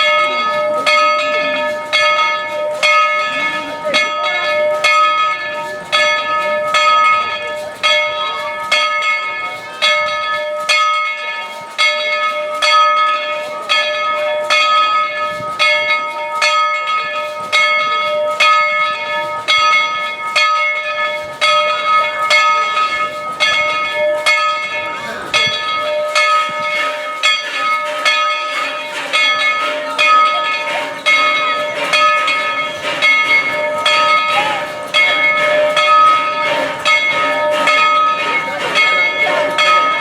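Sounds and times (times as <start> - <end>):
locomotive bell ringing: 0.0 - 40.0.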